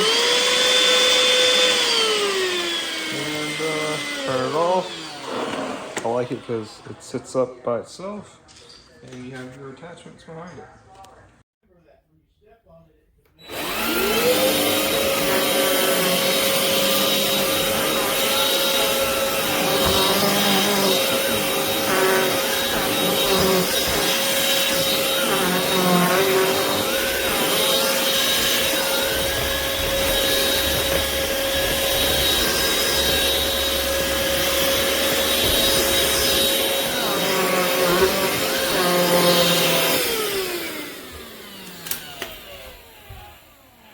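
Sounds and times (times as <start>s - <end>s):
cordless vacuum motor whine: 0.0s - 6.5s, 13.4s - 43.9s.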